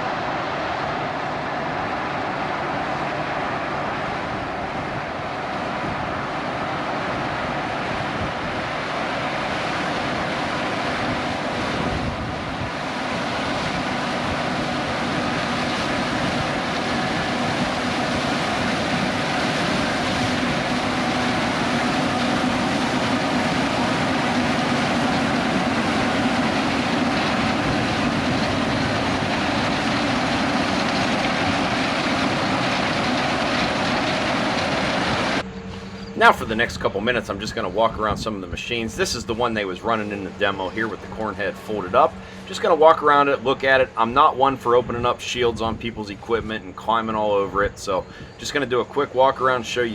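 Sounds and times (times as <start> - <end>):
combine harvester droning: 0.0 - 49.9.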